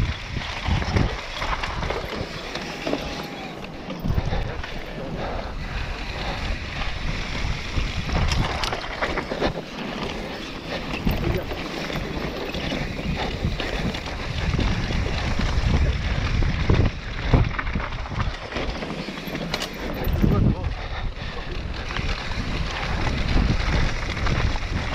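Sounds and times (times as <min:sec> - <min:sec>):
bike rattling and knocking: 0:00.0 - 0:24.9
wind buffeting microphone: 0:00.0 - 0:24.9.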